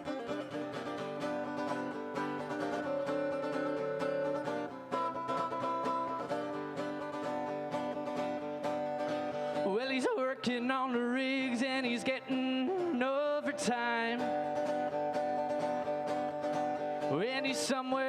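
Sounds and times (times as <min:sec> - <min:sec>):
acoustic guitar playing: 0:00.0 - 0:18.0
live country music: 0:00.0 - 0:18.0.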